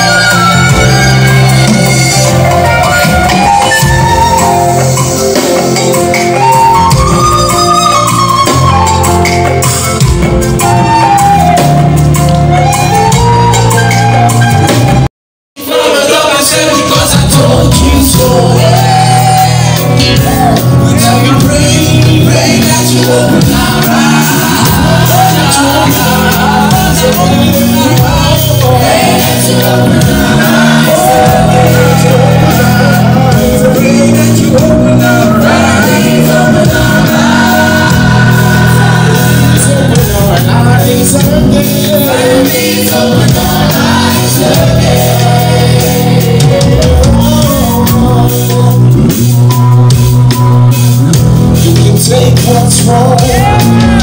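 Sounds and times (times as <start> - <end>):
singers on microphone: 0.0 - 9.9, 15.6 - 54.0
bass guitar: 0.0 - 15.1, 16.4 - 54.0
congregation singing along: 0.0 - 54.0
gospel band playing: 0.0 - 54.0.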